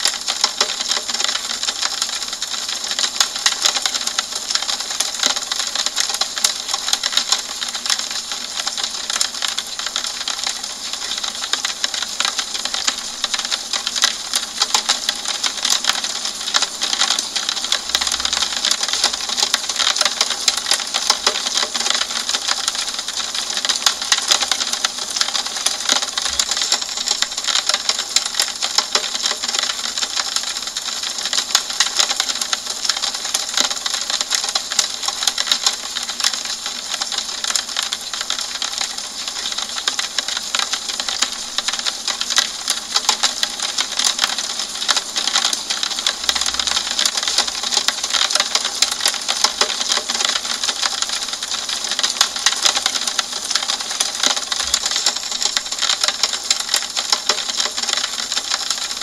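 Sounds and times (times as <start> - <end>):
rain tapping on window: 0.0 - 59.0.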